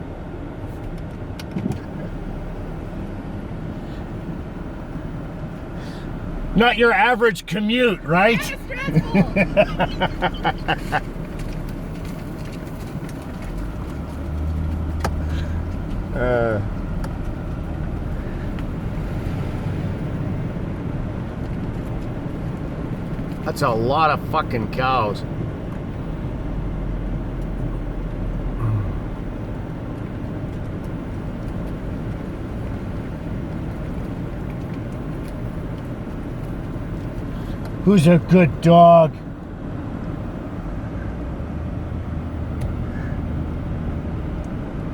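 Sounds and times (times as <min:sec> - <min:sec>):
car engine rumbling: 0:00.0 - 0:44.9.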